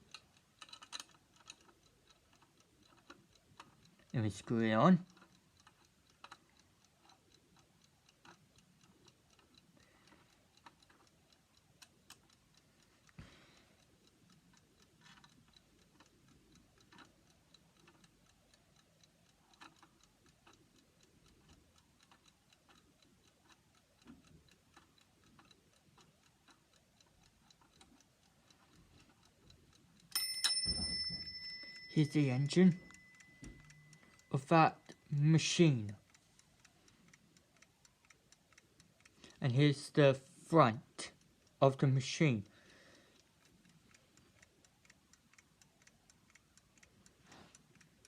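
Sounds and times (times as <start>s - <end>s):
alarm clock ticking: 0.0s - 48.0s.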